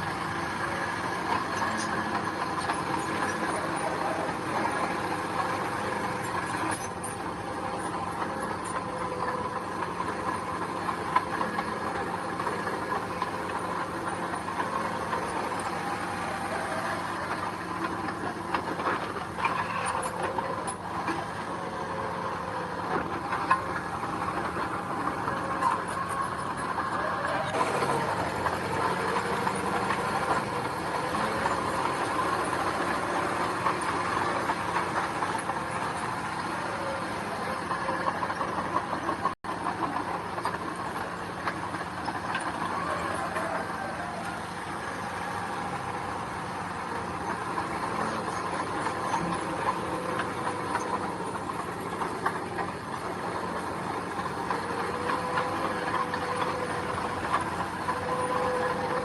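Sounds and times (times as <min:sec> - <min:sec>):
heavy machinery engine running: 0:00.0 - 0:59.0
machine rattling and clanking on gravel: 0:00.0 - 0:59.0.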